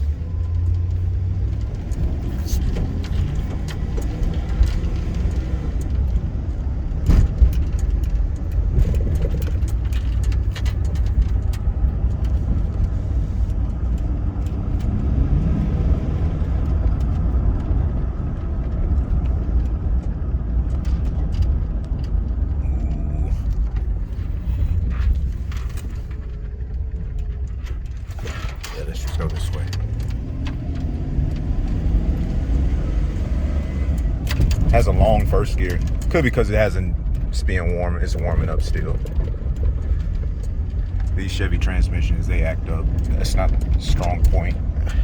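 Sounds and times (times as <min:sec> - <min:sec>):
engine and road noise in cab: 0:00.0 - 0:45.0.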